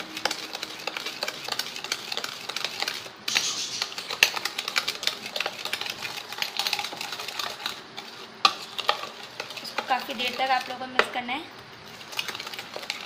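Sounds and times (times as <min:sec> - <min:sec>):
metal spoon scraping bowl: 0:00.0 - 0:11.1, 0:11.9 - 0:13.0.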